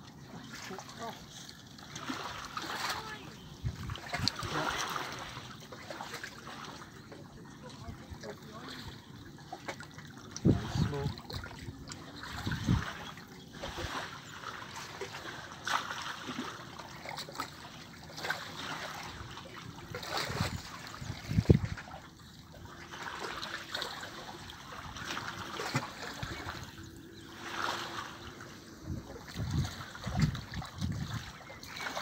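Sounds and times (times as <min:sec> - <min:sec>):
small waves lapping on shore: 0:00.0 - 0:32.0.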